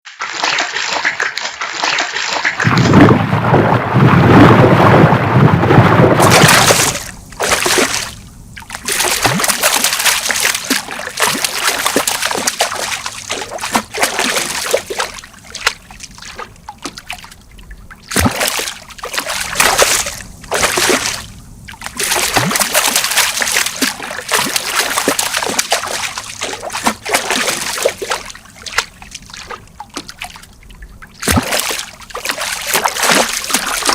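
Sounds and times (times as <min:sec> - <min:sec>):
fish splashing in water: 0:00.1 - 0:33.9
water trickling and dripping: 0:06.2 - 0:33.9.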